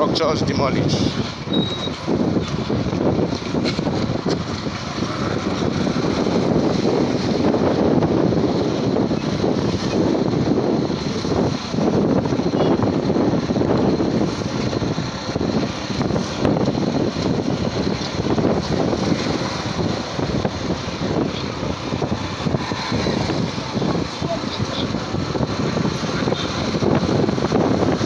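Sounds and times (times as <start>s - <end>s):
wind buffeting microphone: 0.0s - 28.0s
motorcycle rushing noise: 1.0s - 28.0s.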